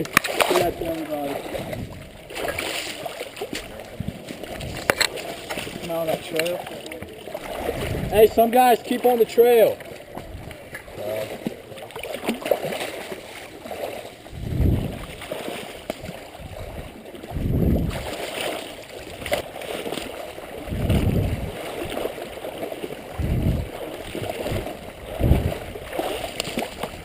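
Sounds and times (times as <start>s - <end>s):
water sloshing and gurgling: 0.0s - 27.0s.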